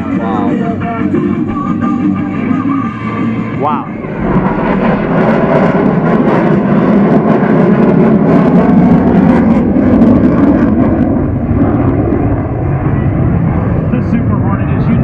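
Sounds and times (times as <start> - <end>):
jet engines roaring in flight: 0.0 - 15.0.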